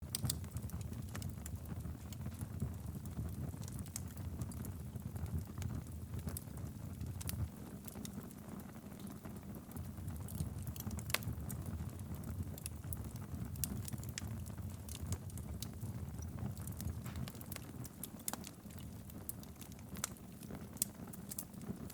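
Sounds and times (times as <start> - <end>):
low rumble of flames: 0.0 - 21.9
wood fire crackling and popping: 0.0 - 21.9.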